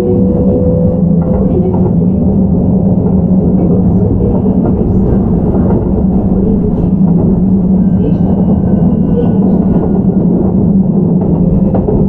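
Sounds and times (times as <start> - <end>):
low hum: 0.0 - 12.0
train wheels rumbling on rail: 0.0 - 12.0.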